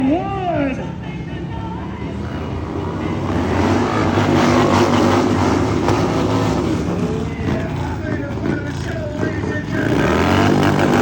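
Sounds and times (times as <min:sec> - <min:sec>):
motorcycle engine revving: 0:00.8 - 0:11.0.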